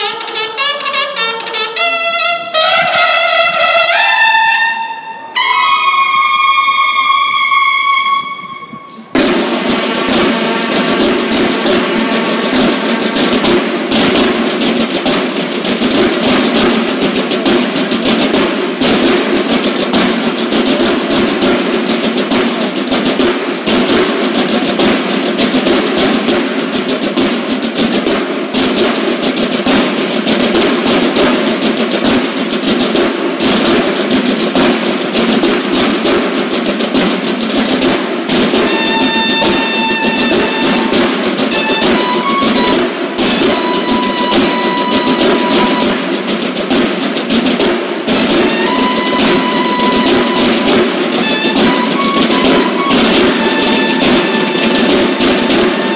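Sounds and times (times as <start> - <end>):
marching snare drums with rolls: 0.0 - 4.6, 5.4 - 55.9.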